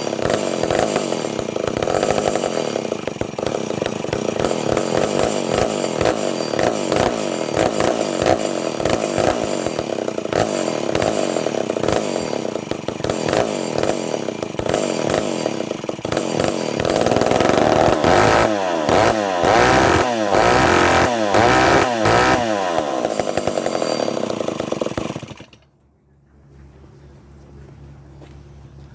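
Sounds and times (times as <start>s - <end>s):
two-stroke chainsaw running unevenly: 0.0s - 25.7s.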